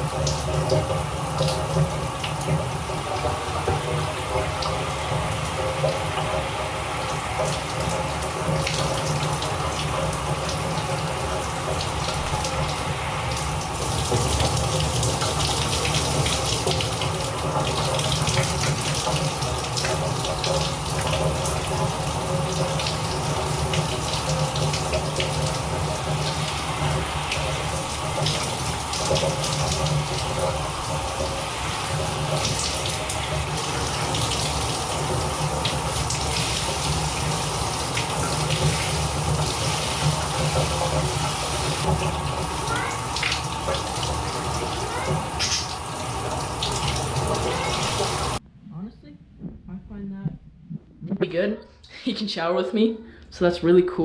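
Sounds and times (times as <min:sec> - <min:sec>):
shower water spraying: 0:00.0 - 0:48.4.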